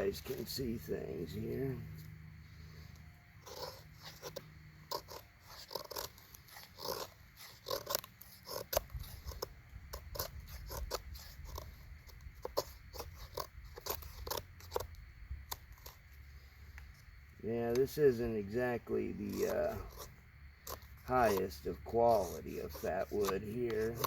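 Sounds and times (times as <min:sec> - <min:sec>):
knife scraping wood: 0:01.4 - 0:24.0.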